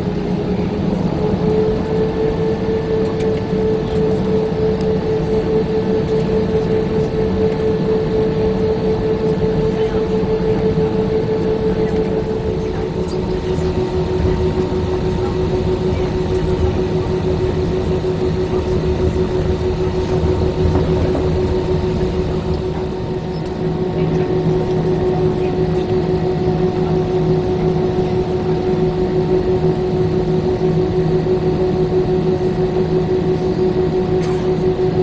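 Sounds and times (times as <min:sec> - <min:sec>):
aircraft cabin engine hum: 0:00.0 - 0:35.0.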